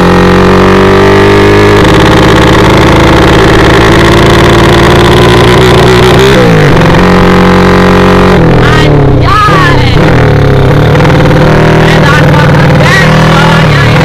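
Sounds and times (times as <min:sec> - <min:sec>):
small motorcycle engine at speed: 0:00.0 - 0:14.0.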